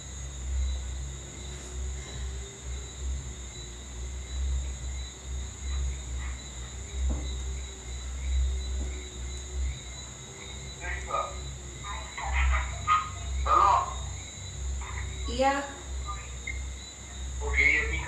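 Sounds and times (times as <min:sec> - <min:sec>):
insects trilling: 0:00.0 - 0:18.0
low uneven rumble: 0:00.0 - 0:18.0.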